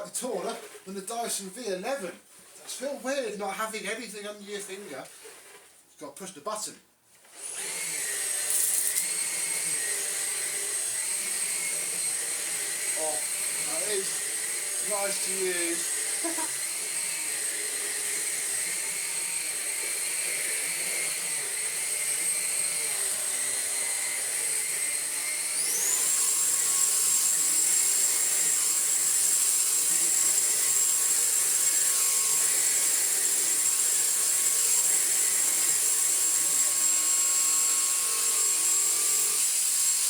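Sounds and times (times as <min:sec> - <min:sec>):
stick vacuum whining over carpet: 0:07.2 - 0:39.4.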